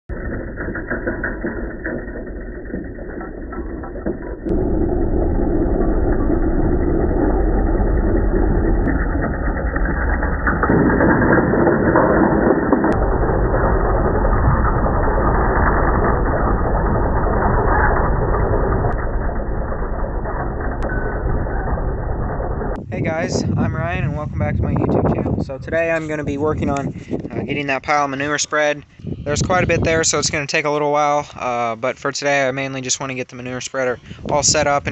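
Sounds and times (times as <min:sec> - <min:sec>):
tractor engine clattering: 0:00.0 - 0:31.4.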